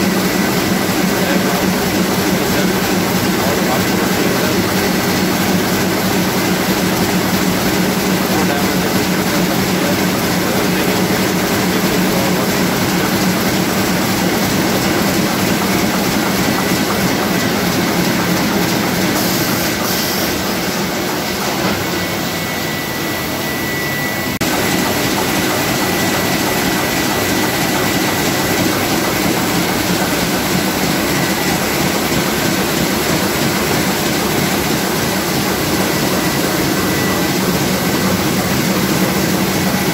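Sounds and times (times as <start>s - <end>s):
printing press clattering: 0.0s - 22.3s, 24.4s - 39.9s.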